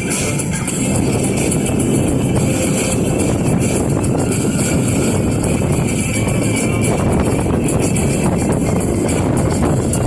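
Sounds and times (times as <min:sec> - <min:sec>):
background music: 0:00.0 - 0:10.0
strong wind buffeting microphone: 0:00.0 - 0:10.0.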